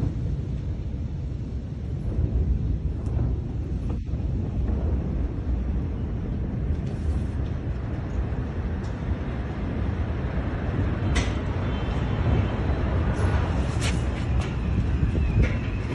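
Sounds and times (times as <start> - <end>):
low rumbling noise: 0.0 - 15.9.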